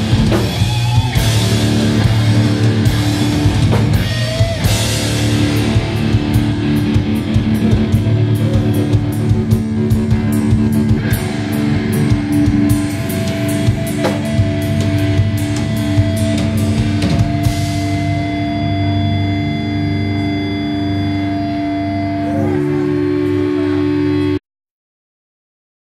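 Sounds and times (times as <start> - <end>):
drum kit playing: 0.0 - 21.6
distorted electric guitars: 0.0 - 24.4.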